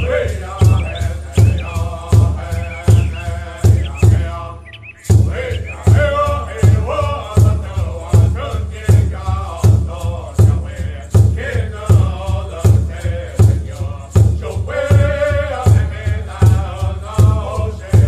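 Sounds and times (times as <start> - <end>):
vocals chanting: 0.0 - 18.0.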